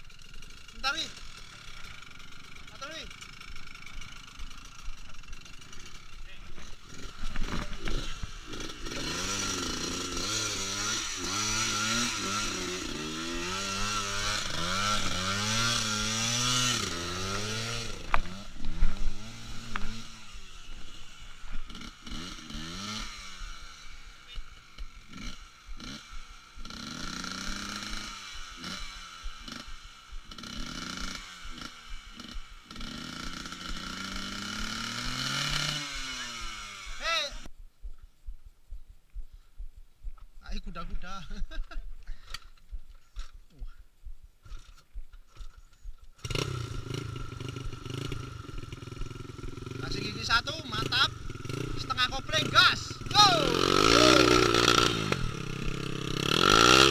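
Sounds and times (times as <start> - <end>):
motorcycle engine revving: 0.0 - 37.5, 44.4 - 56.9.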